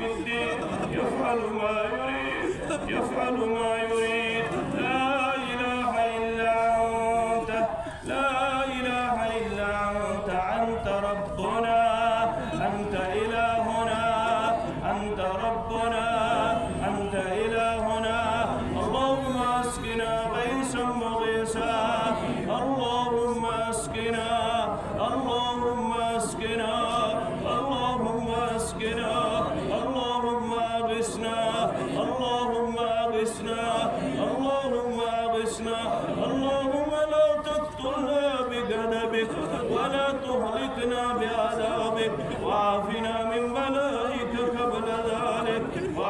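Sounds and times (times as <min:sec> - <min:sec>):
man chanting melodic recitation: 0:00.0 - 0:46.0.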